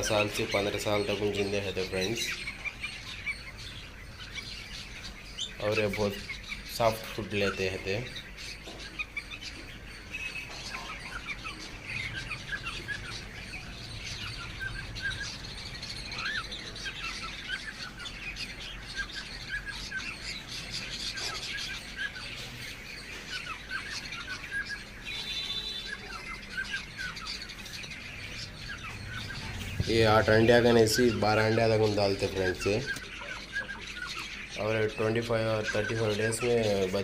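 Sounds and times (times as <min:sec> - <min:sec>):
cage birds chirping: 0:00.0 - 0:37.0.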